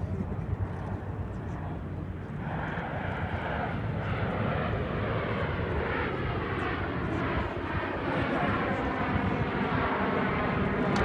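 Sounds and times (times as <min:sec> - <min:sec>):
jets flying overhead: 0:00.0 - 0:11.0.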